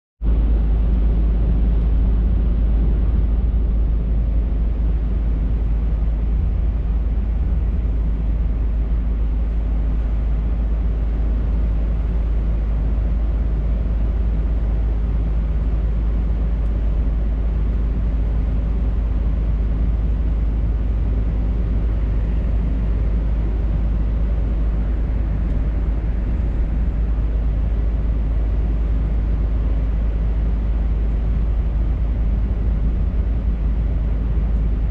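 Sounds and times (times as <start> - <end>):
road noise: 0.3 - 34.9
truck diesel engine droning: 0.3 - 34.9.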